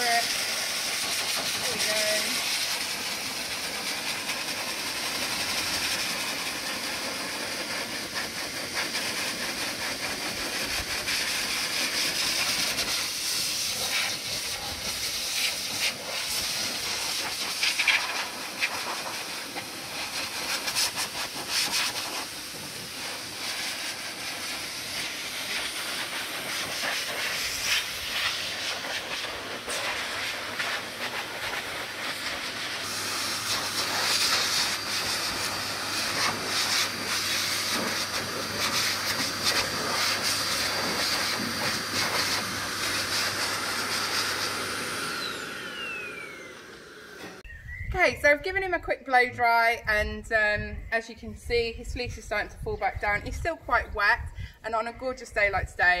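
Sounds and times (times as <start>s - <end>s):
blow dryer rushing air: 0.0s - 47.6s.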